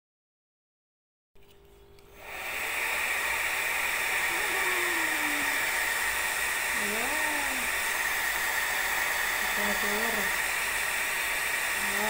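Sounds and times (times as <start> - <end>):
hair dryer blowing: 2.1 - 12.0.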